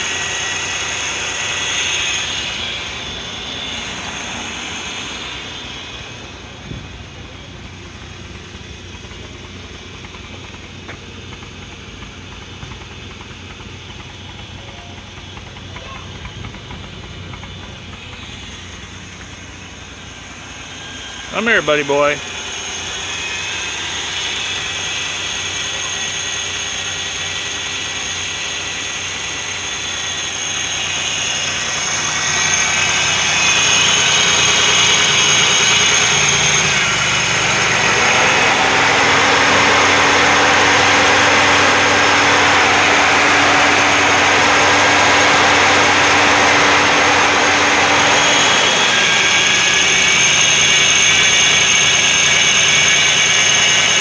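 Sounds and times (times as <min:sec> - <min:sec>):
engine running with exhaust leak: 0:00.0 - 0:54.0.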